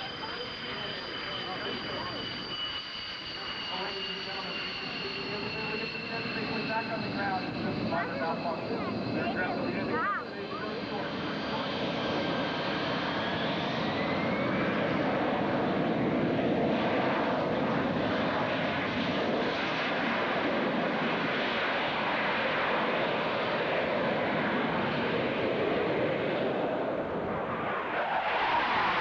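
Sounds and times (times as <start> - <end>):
faint rising whine: 0.0 - 29.0
loud jet noise: 0.0 - 29.0.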